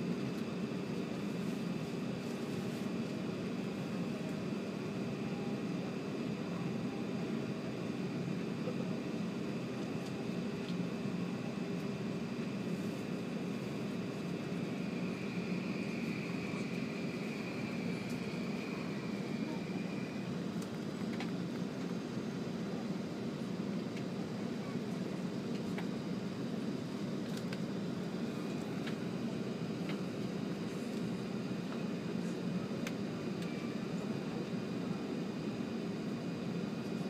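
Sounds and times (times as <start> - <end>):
ventilation and air conditioning hum: 0.0 - 37.0.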